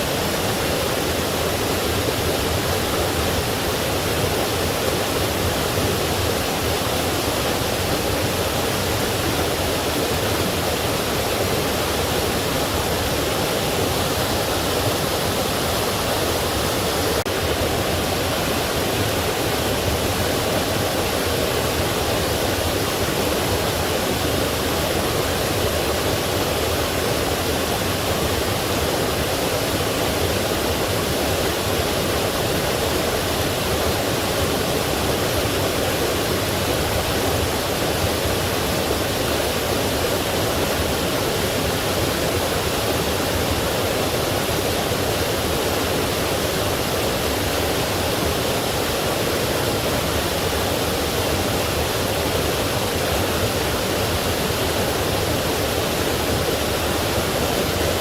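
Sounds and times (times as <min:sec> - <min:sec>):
stream and waterfall rushing: 0:00.0 - 0:58.0.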